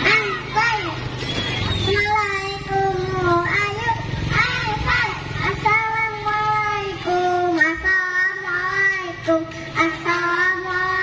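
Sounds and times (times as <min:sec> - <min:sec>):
children singing: 0:01.9 - 0:11.0.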